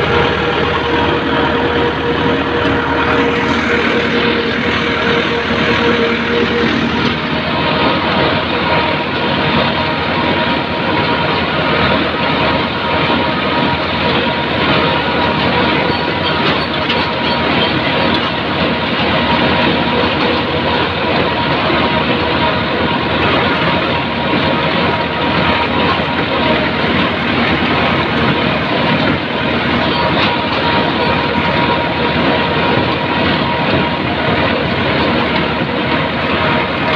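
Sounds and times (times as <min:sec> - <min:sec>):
tractor engine and machinery din: 0:00.0 - 0:36.9.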